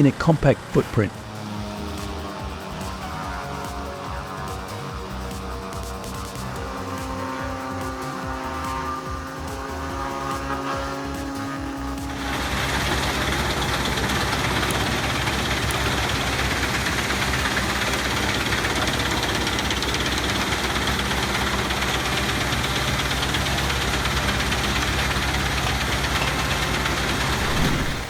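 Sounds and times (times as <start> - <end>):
wood chipper running: 0.0 - 28.0.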